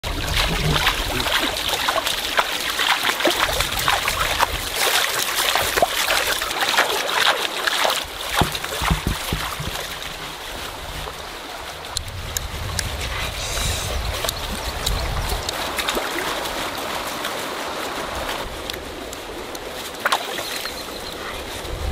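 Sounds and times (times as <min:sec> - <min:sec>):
running water: 0:00.0 - 0:21.9
water splashing while wading: 0:00.0 - 0:21.9.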